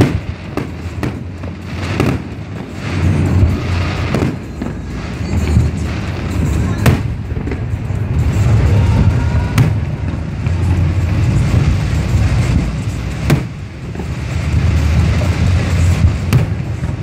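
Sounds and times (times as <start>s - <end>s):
continuous low rumble: 0.0s - 17.0s
fireworks going off: 0.0s - 17.0s
sharp firework bangs: 0.0s - 17.0s.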